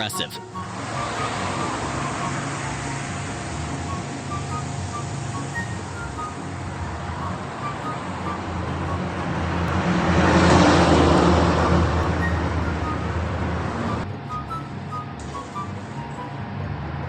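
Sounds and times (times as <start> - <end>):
loud rushing noise: 0.0 - 17.0.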